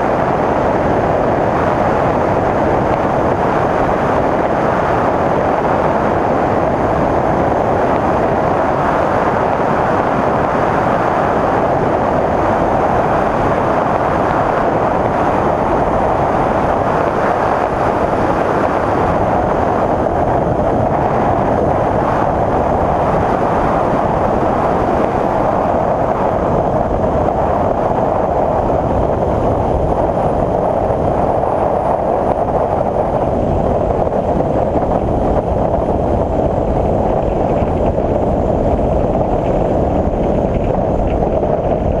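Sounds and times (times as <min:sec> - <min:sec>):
light aircraft engine and propeller: 0:00.0 - 0:42.0
wind noise on microphone: 0:00.0 - 0:42.0.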